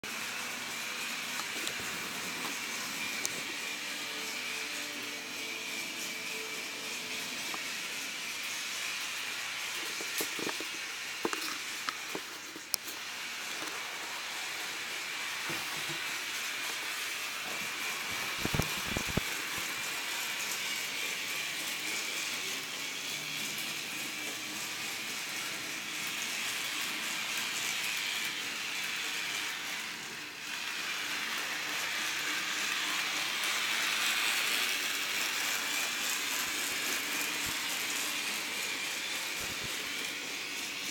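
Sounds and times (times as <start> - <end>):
toy train whirring: 0.0 - 40.9
toy train track clicks: 0.1 - 40.9.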